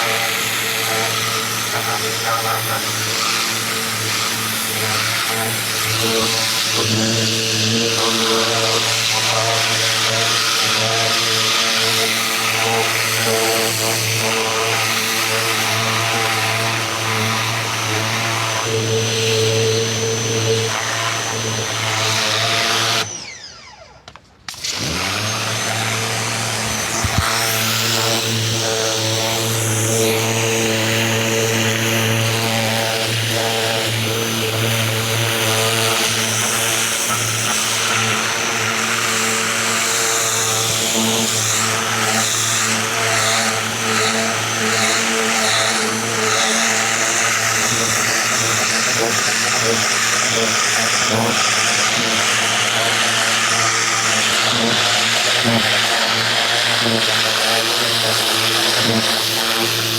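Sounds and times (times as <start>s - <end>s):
pressure washer motor humming: 0.0s - 59.9s.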